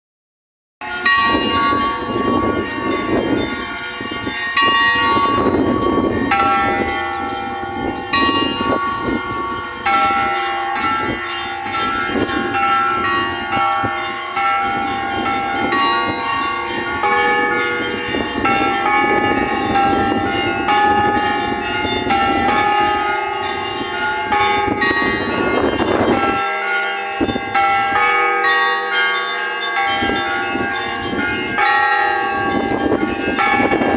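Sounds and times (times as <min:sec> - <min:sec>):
church bells pealing: 0:00.8 - 0:33.9.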